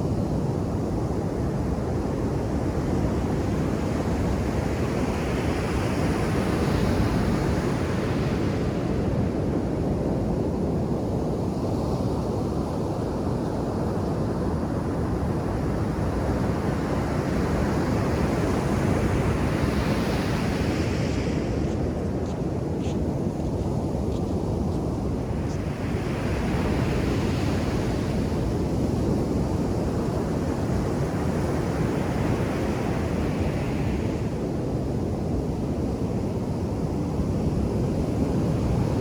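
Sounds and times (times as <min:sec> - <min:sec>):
wind rumble on microphone: 0:00.0 - 0:39.0.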